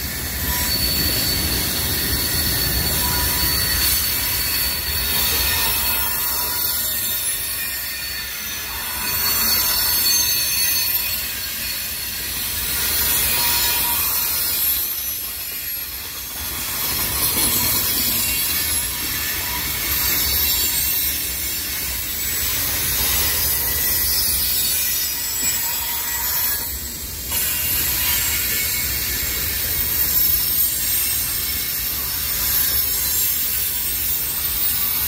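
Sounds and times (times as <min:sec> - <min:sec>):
high wheel squeal: 0:00.0 - 0:35.0
train wheels on rails: 0:00.0 - 0:35.0.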